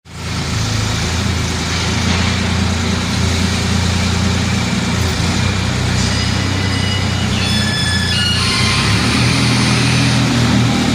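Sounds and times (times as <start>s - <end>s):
tractor engine running: 0.1s - 10.9s.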